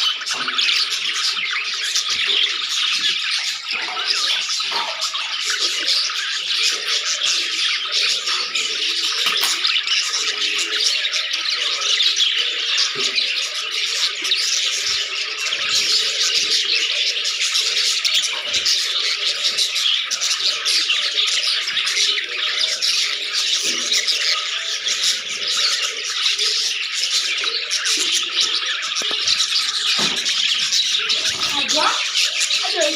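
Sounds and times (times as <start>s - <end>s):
budgerigars chattering and chirping: 0.0s - 32.9s.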